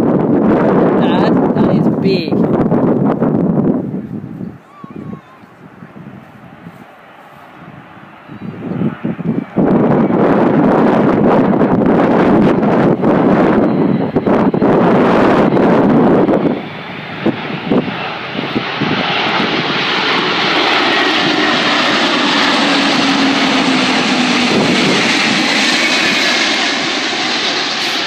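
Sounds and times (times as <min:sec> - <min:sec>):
jet engines overhead: 0:00.0 - 0:28.0
wind buffeting microphone: 0:00.0 - 0:28.0.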